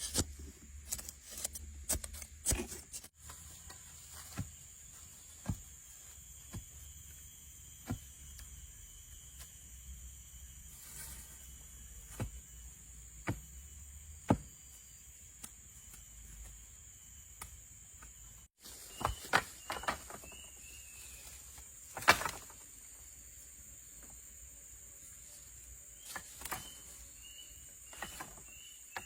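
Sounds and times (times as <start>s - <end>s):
high insect drone: 3.4s - 29.0s.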